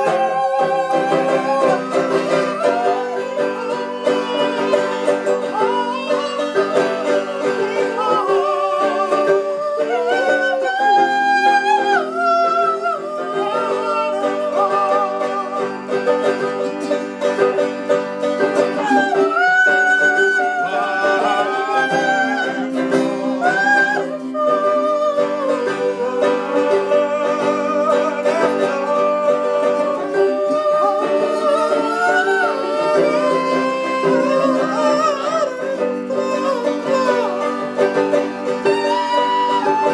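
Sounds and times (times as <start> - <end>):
person singing melody: 0.0 - 39.9
plucked acoustic strings: 0.0 - 39.9.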